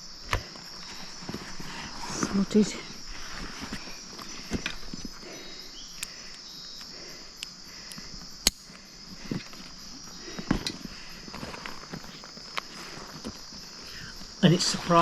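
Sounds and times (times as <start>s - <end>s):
insect chorus trilling buzz: 0.0s - 15.0s.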